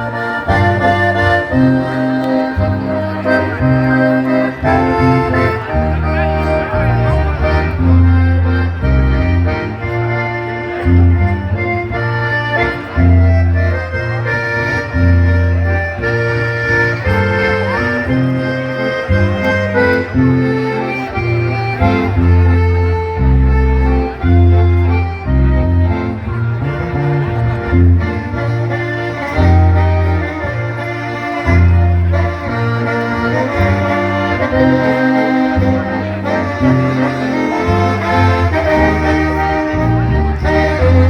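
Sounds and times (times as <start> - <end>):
band playing a waltz: 0.0 - 41.0.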